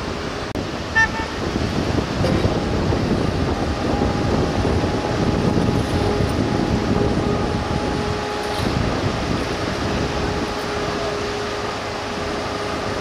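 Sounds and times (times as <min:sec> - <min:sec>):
thin steady whine: 0:00.0 - 0:13.0
tractor engine and track rumble: 0:00.0 - 0:13.0.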